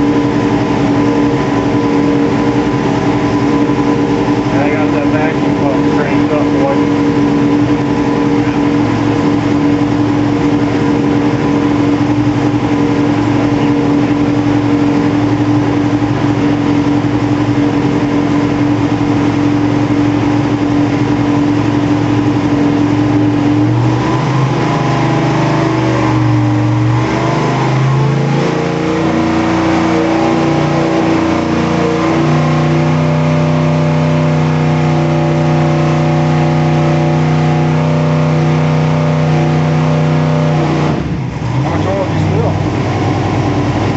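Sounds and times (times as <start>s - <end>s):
car engine running loud: 0.0s - 43.9s.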